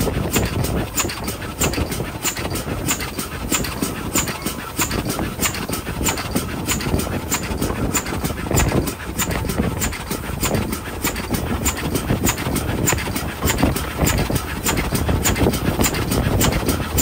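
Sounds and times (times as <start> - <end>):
steam locomotive exhaust beat: 0.0 - 17.0
wheels rumbling on rail: 0.0 - 17.0.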